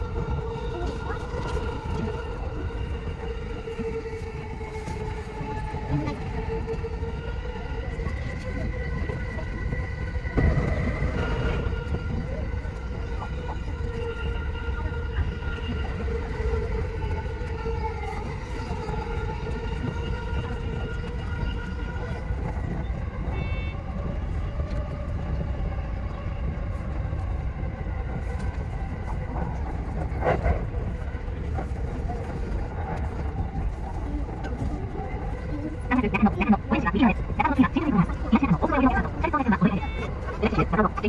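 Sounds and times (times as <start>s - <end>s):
electric train rumble: 0.0s - 41.0s.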